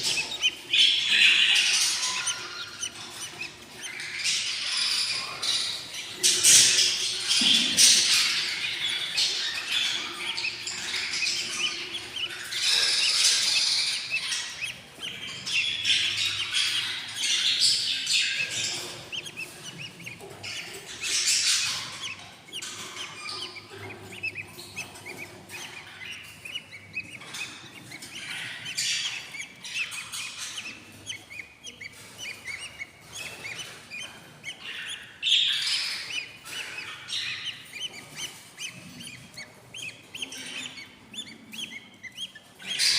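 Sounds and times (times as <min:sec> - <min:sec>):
chicks chirping: 0:00.0 - 0:42.9.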